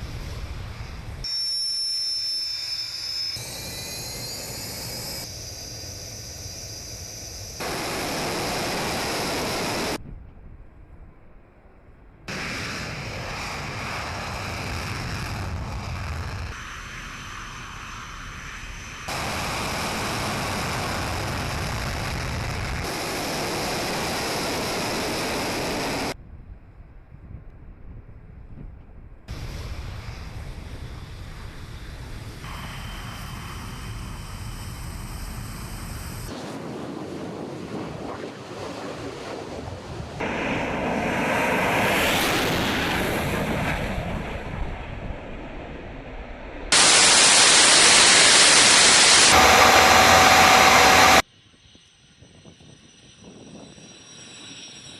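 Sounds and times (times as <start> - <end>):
bomber aircraft in flight: 0.0 - 54.9.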